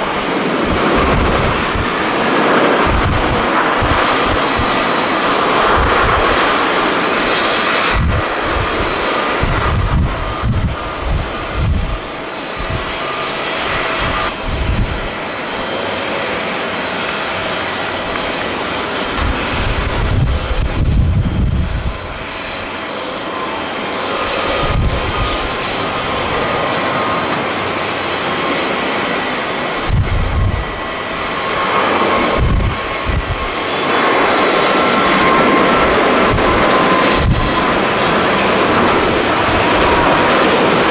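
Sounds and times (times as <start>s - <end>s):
jet engines running: 0.0s - 40.9s
wind buffeting microphone: 0.0s - 40.9s.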